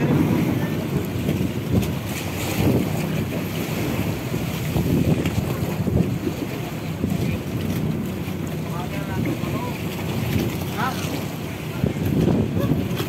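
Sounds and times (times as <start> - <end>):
sea washing around boat: 0.0 - 13.0
wind buffeting microphone: 0.0 - 13.0.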